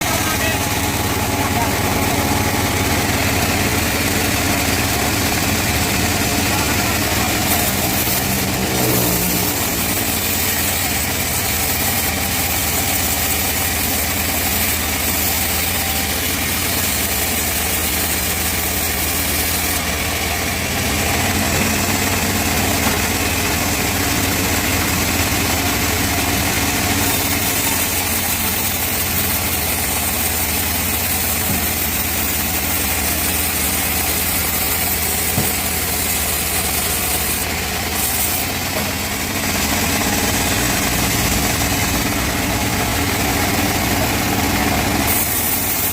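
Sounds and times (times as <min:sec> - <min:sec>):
band sawmill sawing wood: 0:00.0 - 0:45.9.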